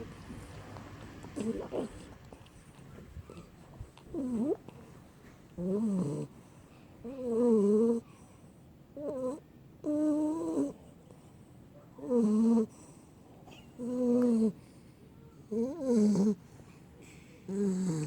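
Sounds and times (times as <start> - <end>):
puppy snoring: 0.0 - 11.2, 12.0 - 14.8, 15.5 - 16.6, 17.4 - 18.0.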